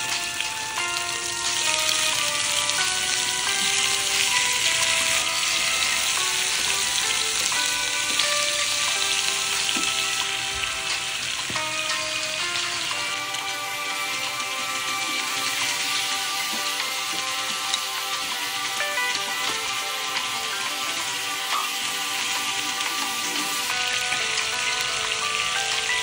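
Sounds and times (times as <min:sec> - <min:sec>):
background music with held notes: 0:00.0 - 0:26.0
chicken sizzling in hot oil: 0:00.0 - 0:26.0.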